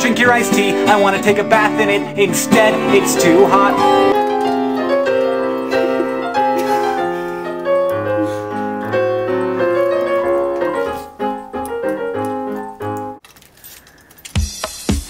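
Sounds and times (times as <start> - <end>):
slow piano melody: 0.8 - 13.2.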